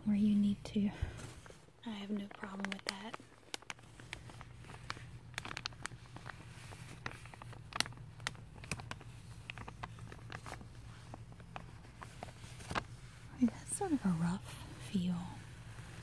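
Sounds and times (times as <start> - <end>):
low background hum: 0.0 - 16.0
plastic sheeting crinkling: 0.2 - 16.0.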